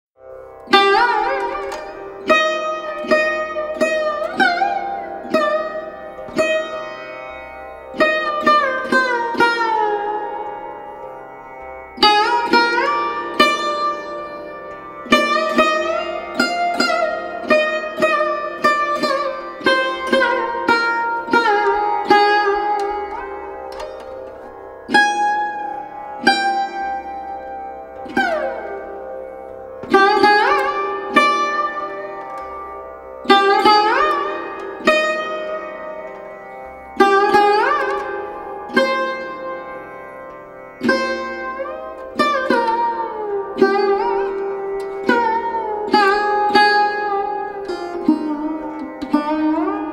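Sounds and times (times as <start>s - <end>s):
plucked string instrument melody: 0.3s - 49.9s.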